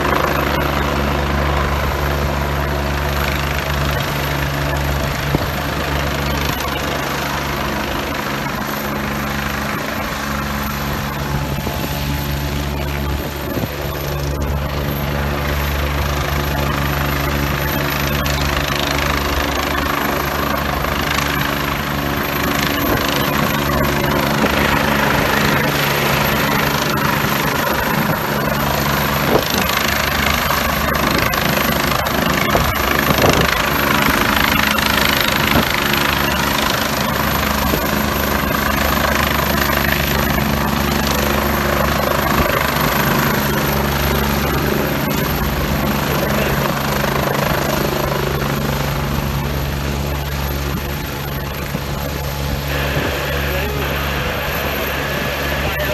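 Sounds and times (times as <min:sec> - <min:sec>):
helicopter rotor noise: 0:00.0 - 0:55.9.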